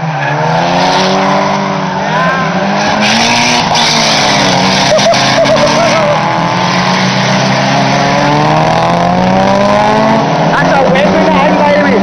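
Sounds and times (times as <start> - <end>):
race car engines accelerating: 0.0 - 12.0.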